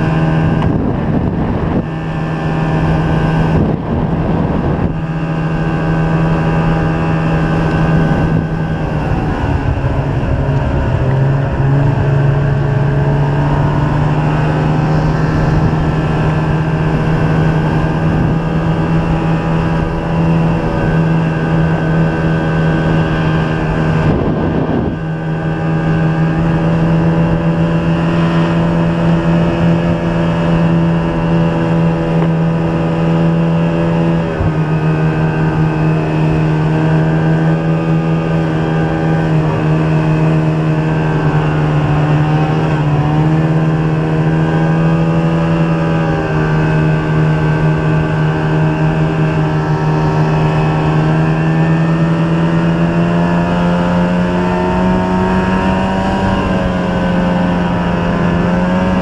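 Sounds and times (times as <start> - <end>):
snowmobile engine droning: 0.0 - 59.0.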